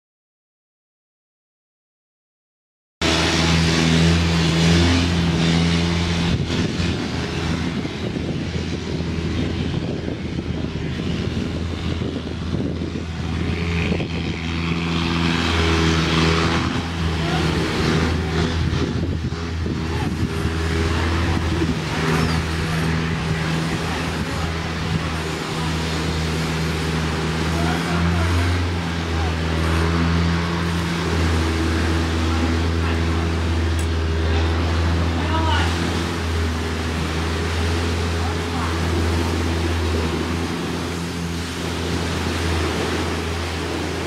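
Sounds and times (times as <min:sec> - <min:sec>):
constant rush of noise: 0:03.0 - 0:44.0
engine humming: 0:03.0 - 0:44.0.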